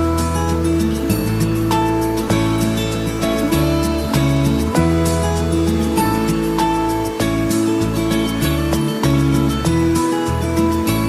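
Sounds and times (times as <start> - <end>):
bass line: 0.0 - 11.0
plucked acoustic guitar: 0.0 - 11.0.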